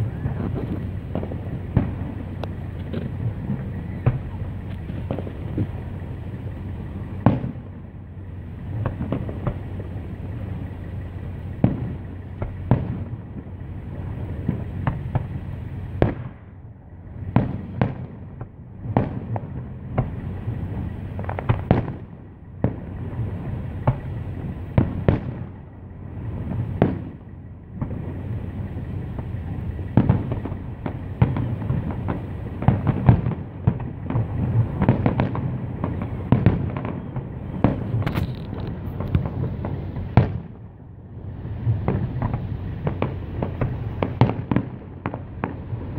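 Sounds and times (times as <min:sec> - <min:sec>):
fireworks bursting with sharp bangs: 0:00.0 - 0:45.9
steady low rumble: 0:00.0 - 0:45.9.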